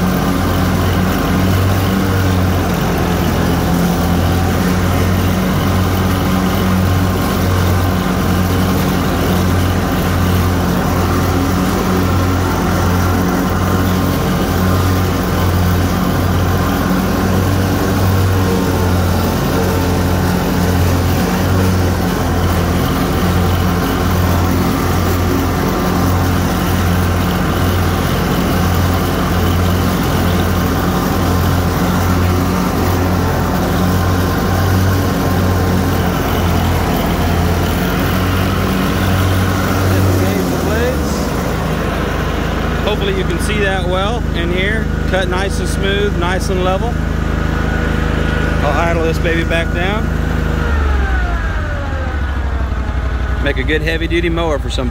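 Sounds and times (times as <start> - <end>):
mower engine drone: 0.0 - 54.9.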